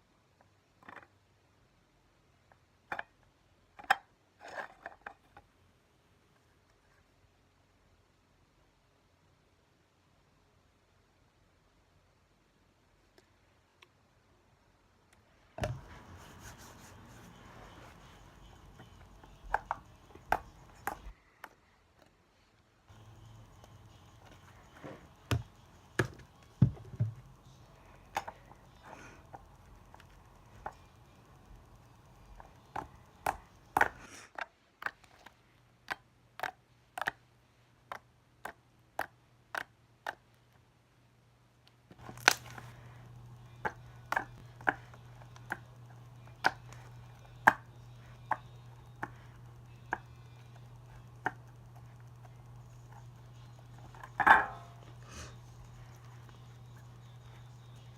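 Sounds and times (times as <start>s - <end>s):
steady low hum: 5.5s - 36.8s, 40.7s - 57.9s.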